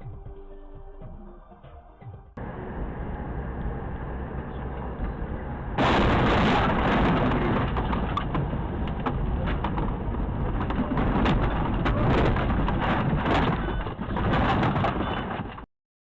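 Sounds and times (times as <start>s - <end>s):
vehicle on the road: 0.0s - 15.6s.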